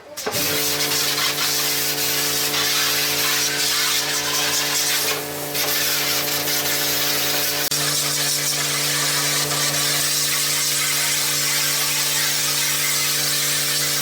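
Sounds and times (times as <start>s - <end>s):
power tool motor hissing: 0.3s - 14.0s.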